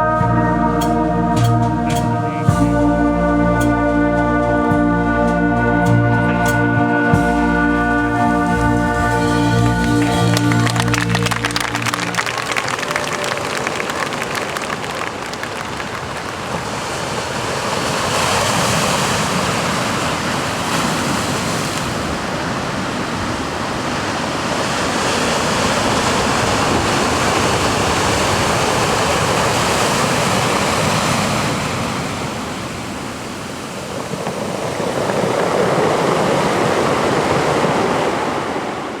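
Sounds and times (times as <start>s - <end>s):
sea waves washing in: 6.5s - 39.0s.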